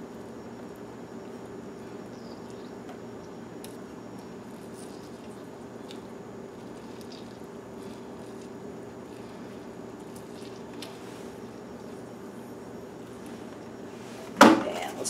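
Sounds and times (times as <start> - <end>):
juice dripping: 0.0 - 14.4
low room hum: 0.0 - 15.0.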